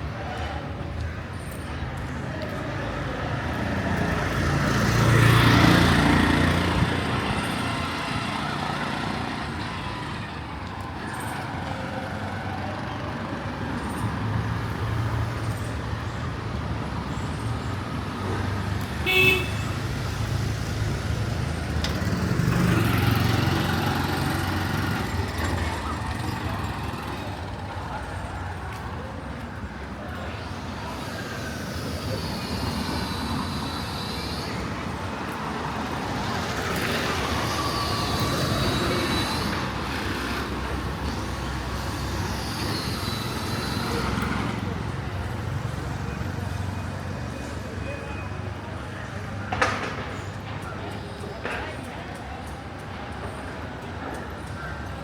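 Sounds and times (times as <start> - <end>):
city street traffic: 0.0 - 55.0
vehicles passing close by: 0.0 - 55.0.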